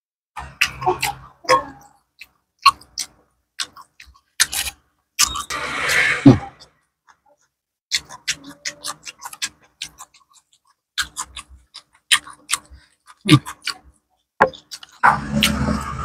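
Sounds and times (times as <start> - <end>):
wet chewing and lip clicks: 0.4 - 5.5, 7.0 - 15.8.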